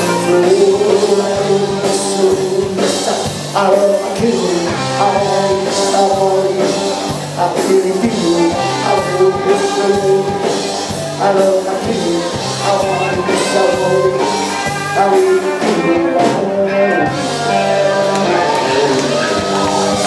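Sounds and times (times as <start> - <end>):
man singing into a microphone: 0.0 - 20.0
rock band playing: 0.0 - 20.0.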